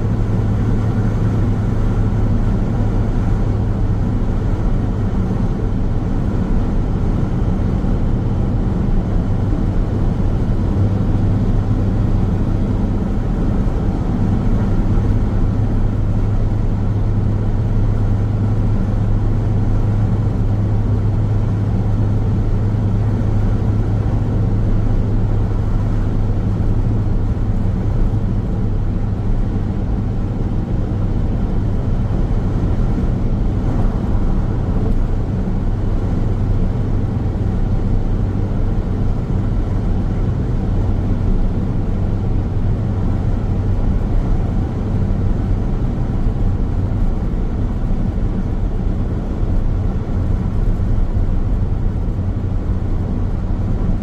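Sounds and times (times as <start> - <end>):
car tyre and road noise: 0.0 - 54.0.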